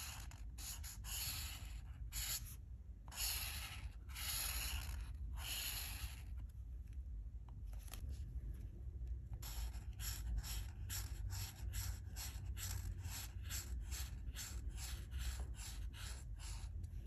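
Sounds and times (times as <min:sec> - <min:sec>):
marker scratching on paper: 0:00.0 - 0:06.5, 0:09.3 - 0:17.0.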